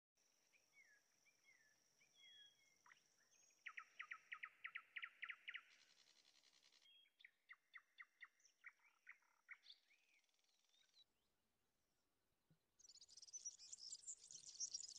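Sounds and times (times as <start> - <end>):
birds singing faintly: 0.2 - 11.4, 12.6 - 14.9.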